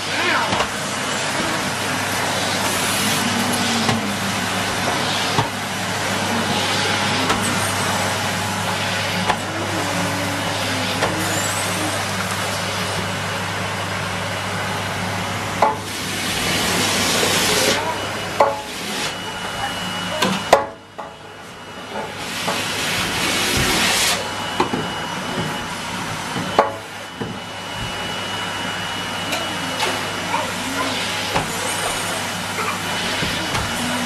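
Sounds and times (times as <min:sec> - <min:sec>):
vacuum cleaner on carpet: 0:00.0 - 0:34.0.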